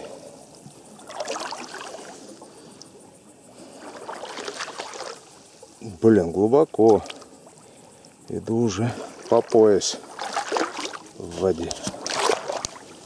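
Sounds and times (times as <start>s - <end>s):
person wading through water: 0.0s - 6.0s, 6.7s - 13.0s.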